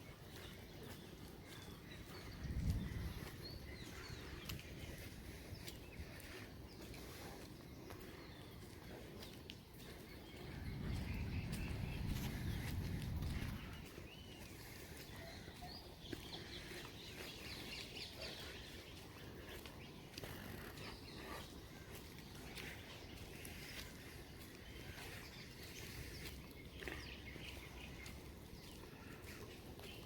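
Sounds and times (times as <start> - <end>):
birds chirping faintly: 0.0 - 30.0.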